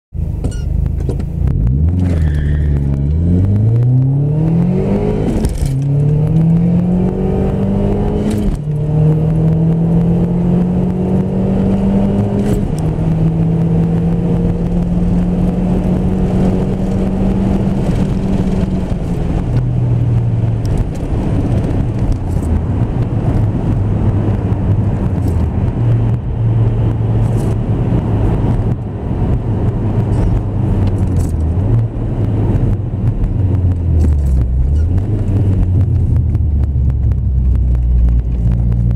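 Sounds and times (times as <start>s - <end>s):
car engine accelerating hard: 1.4s - 38.9s.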